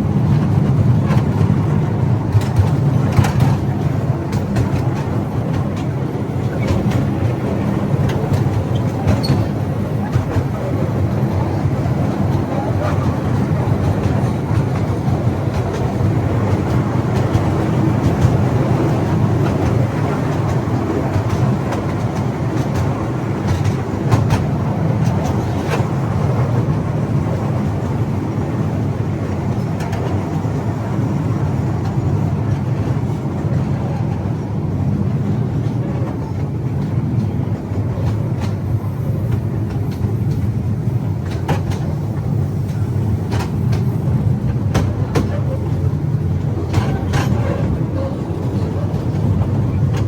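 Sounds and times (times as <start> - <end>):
small train rumbling: 0.0 - 50.0.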